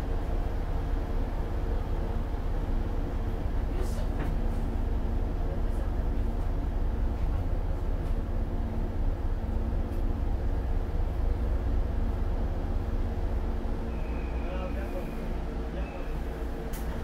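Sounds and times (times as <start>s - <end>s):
train low rumble and hum: 0.0s - 17.0s.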